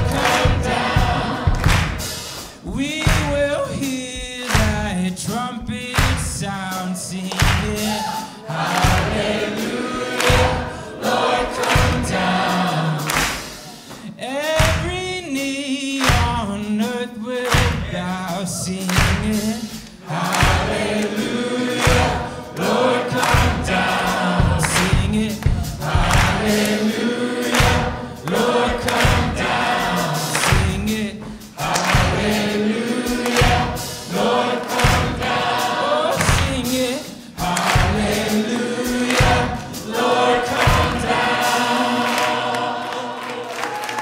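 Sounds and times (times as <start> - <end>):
band playing steady beat: 0.0 - 44.0
lead singer and choir singing: 0.0 - 44.0.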